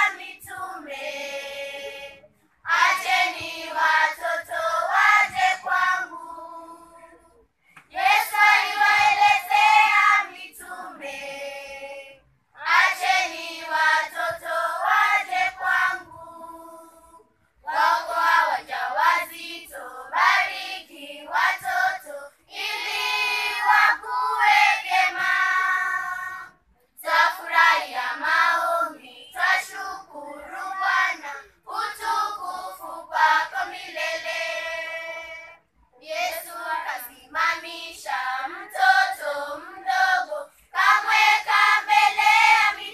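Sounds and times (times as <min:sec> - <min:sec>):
children's choir singing: 0:00.0 - 0:07.3, 0:07.9 - 0:42.9.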